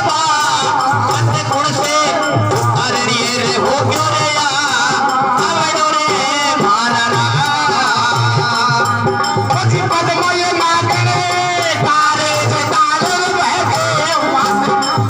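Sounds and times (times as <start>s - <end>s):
man singing folk song: 0.0s - 15.0s.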